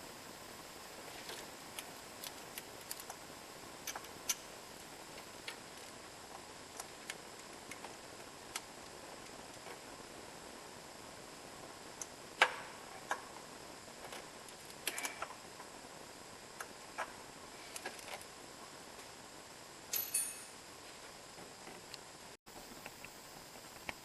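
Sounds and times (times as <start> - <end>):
steady low hiss: 0.0 - 24.0.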